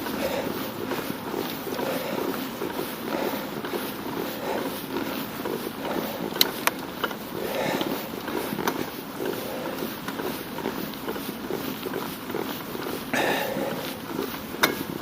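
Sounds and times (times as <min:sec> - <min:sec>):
cyclist breathing hard: 0:00.0 - 0:15.0.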